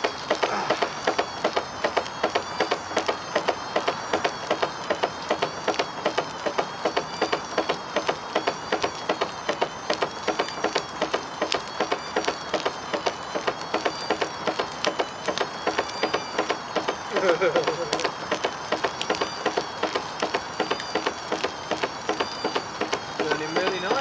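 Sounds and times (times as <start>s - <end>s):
high wavering whine: 0.0s - 24.0s.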